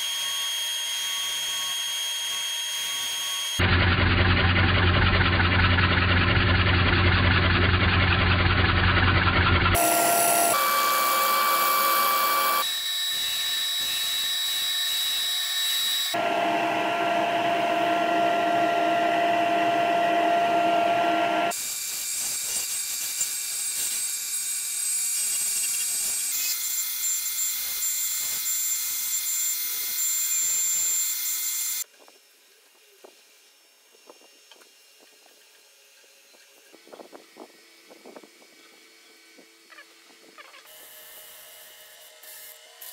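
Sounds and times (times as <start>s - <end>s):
wood lathe high whine: 0.0s - 3.6s, 9.2s - 42.9s.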